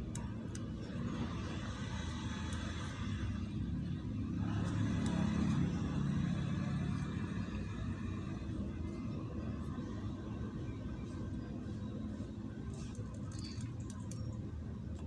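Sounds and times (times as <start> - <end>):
motor vehicle rumbling: 0.0 - 15.0.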